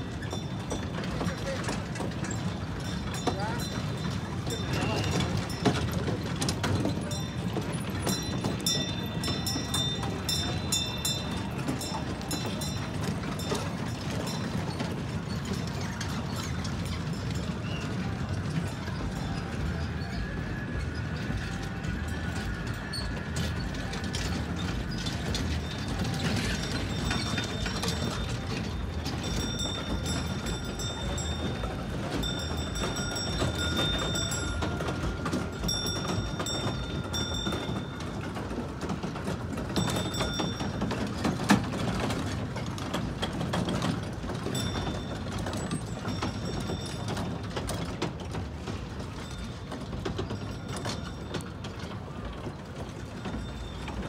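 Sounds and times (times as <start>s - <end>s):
train wheels rattling over paving: 0.0s - 54.0s.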